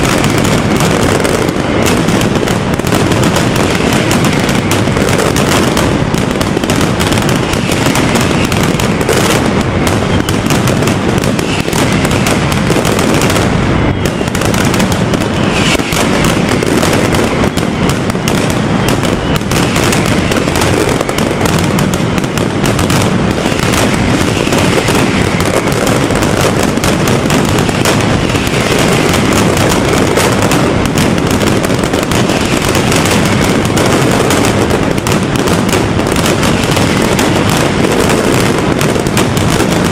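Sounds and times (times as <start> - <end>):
firecrackers barrage: 0.0 - 39.9.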